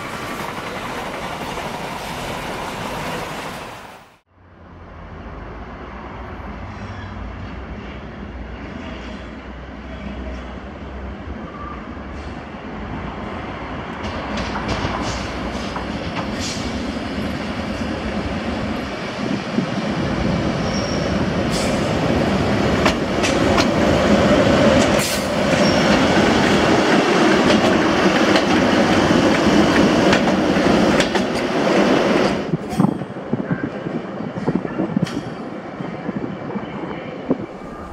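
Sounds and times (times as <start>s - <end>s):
electric locomotive passing: 0.0s - 37.9s.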